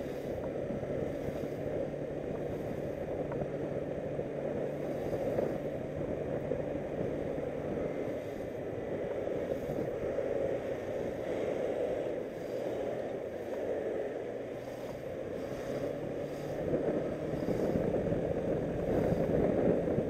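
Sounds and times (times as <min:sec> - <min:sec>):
motorcycle engine drone: 0:00.0 - 0:20.0
wind rush on microphone: 0:00.0 - 0:20.0.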